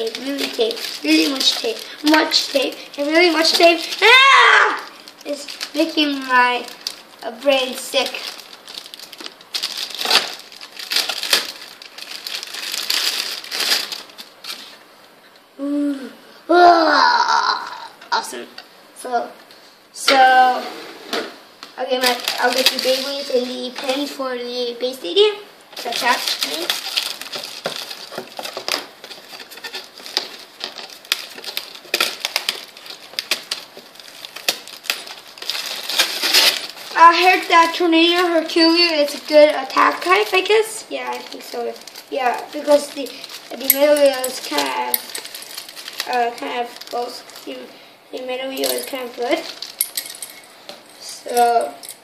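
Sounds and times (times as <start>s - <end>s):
plastic packaging crinkling: 0.0s - 14.9s, 21.9s - 24.2s, 25.2s - 47.6s, 48.2s - 52.0s.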